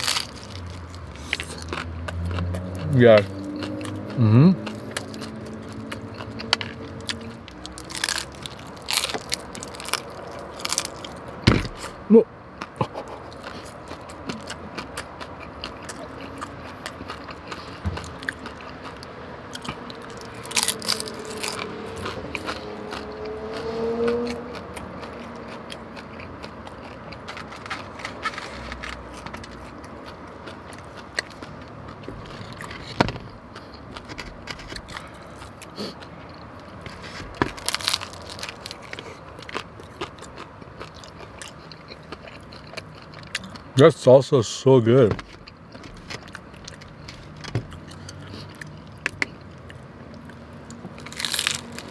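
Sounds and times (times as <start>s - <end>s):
person chewing and smacking: 0.0s - 12.0s, 12.6s - 43.8s, 45.2s - 51.9s.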